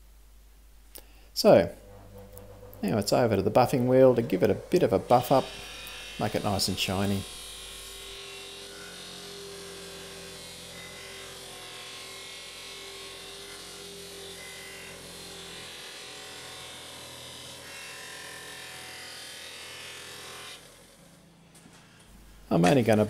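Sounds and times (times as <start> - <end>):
metal plate buffed on wheel: 1.5 - 20.8
bench grinder running: 1.7 - 21.2.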